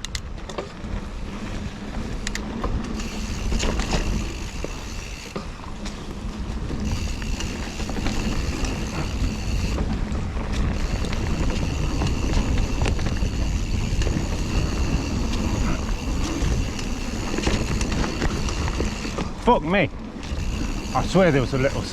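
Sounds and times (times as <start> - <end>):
bike rattling over bumps: 0.0 - 21.9
tyres rumbling over dirt: 0.2 - 21.9
freewheel buzzing: 1.2 - 19.5, 20.1 - 21.9.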